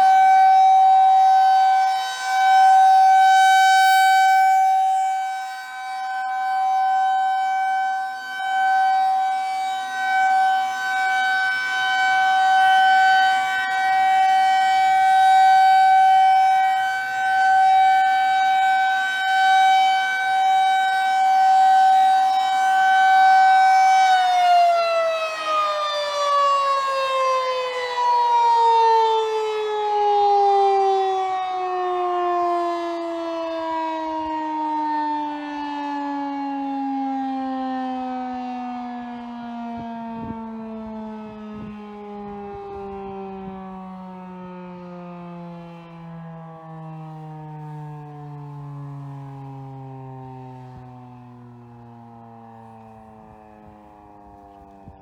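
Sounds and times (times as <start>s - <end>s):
tornado siren winding down: 0.0s - 55.0s.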